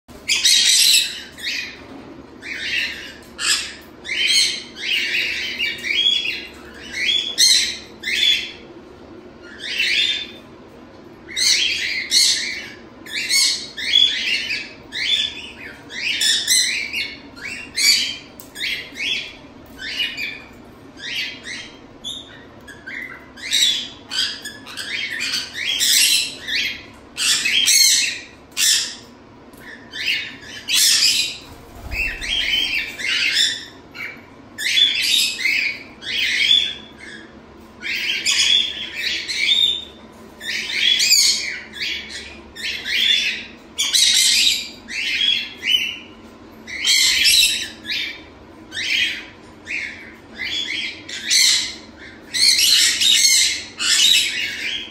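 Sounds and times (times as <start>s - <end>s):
parrots calling and squawking: 0.1s - 8.6s, 11.0s - 54.9s.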